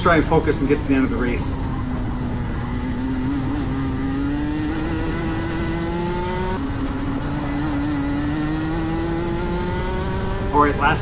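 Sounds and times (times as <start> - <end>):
kart engine accelerating: 0.0 - 11.0.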